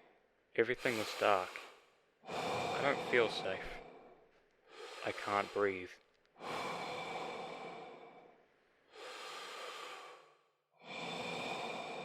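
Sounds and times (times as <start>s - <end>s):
heavy breathing: 0.0s - 12.0s.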